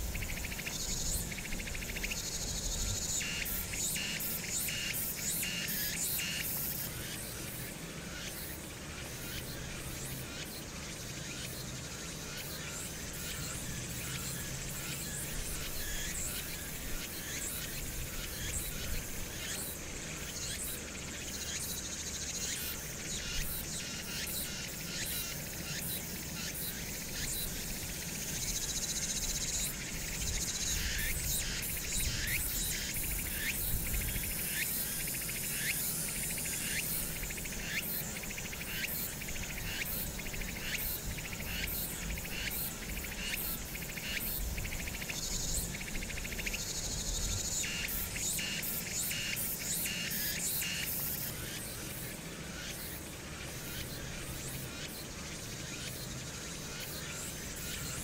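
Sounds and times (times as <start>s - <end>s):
insects calling: 0.0s - 58.0s.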